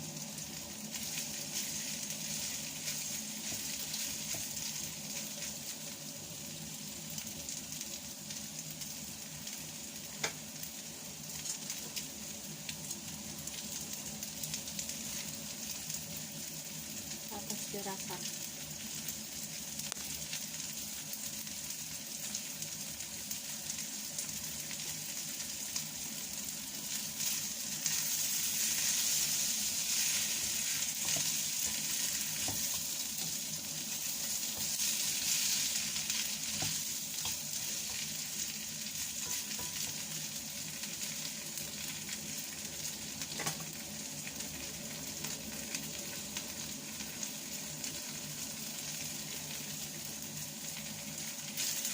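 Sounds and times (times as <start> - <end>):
noodles sizzling in a hot pan: 0.0 - 51.9.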